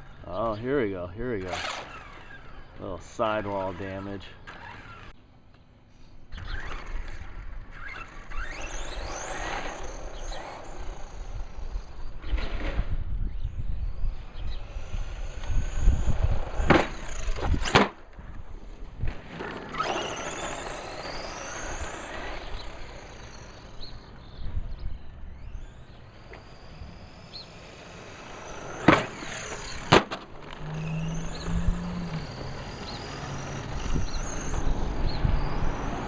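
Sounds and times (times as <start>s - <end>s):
electric motor whine: 1.4s - 5.2s, 6.0s - 36.0s
rolling tire noise: 6.3s - 36.0s.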